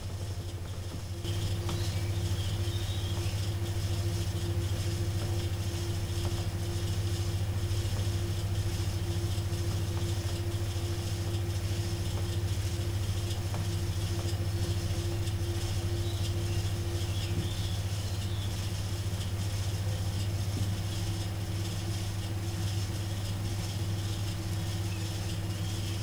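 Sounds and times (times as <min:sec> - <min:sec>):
potter's wheel motor humming: 0:00.0 - 0:26.0.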